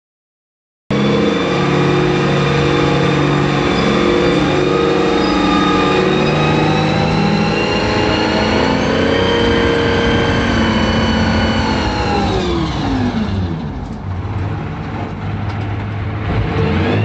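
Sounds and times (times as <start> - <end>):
diesel engine running: 0.9 - 17.0.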